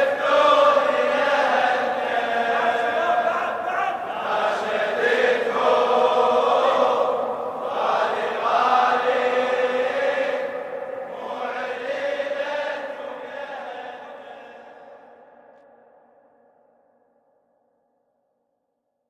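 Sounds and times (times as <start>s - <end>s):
wordless chanted vocals: 0.0s - 16.3s.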